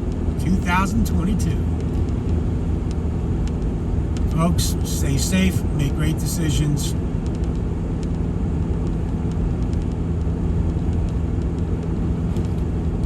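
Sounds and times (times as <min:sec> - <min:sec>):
road rumble: 0:00.0 - 0:13.0
vehicle engine drone: 0:00.0 - 0:13.0.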